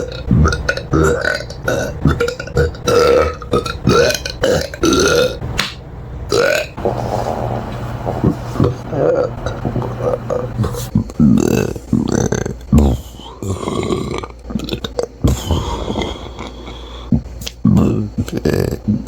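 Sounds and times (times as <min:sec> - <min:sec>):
person burping: 0:00.0 - 0:05.4, 0:06.3 - 0:06.8, 0:08.2 - 0:19.0.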